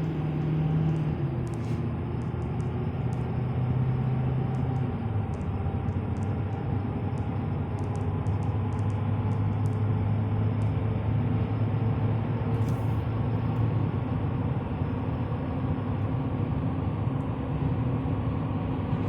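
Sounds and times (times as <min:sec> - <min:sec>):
diesel truck engine drone: 0:00.0 - 0:19.0
road noise: 0:00.0 - 0:19.0.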